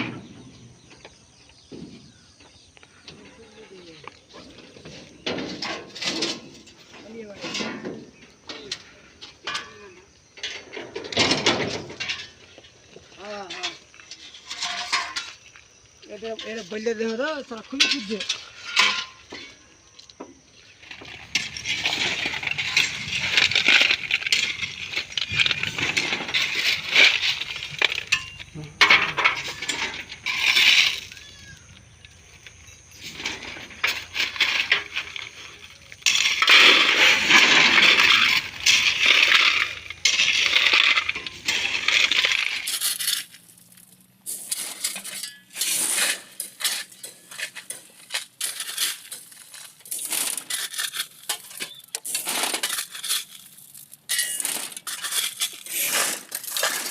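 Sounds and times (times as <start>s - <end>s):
gravel crunching and clinking: 0.0s - 56.9s.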